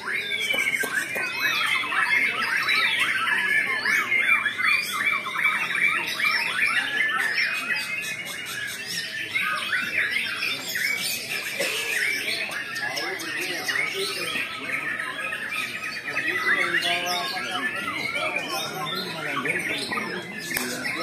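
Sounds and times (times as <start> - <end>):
many songbirds singing: 0.0 - 21.0.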